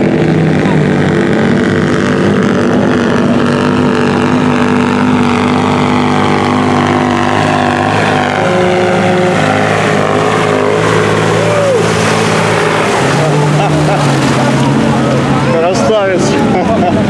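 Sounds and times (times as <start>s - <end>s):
truck engine running: 0.0s - 17.0s
water splashing around wheels: 0.0s - 17.0s.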